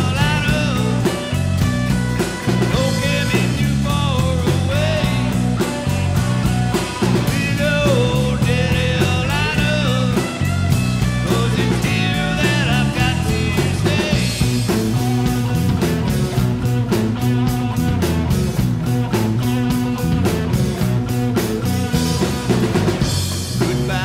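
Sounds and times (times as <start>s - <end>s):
bass guitar: 0.0s - 24.0s
bending wavering lead guitar line: 0.0s - 24.0s
drum kit: 0.0s - 24.0s
electric guitars: 0.0s - 24.0s.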